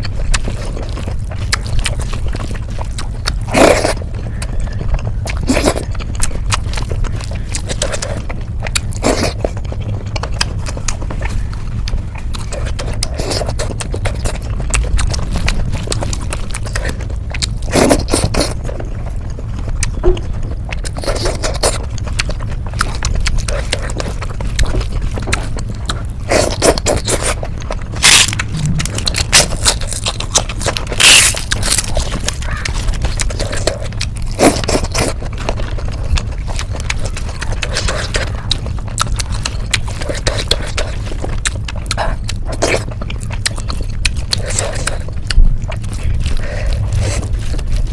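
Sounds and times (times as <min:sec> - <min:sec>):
person chewing: 0:00.0 - 0:47.9
steady low hum: 0:00.0 - 0:47.9.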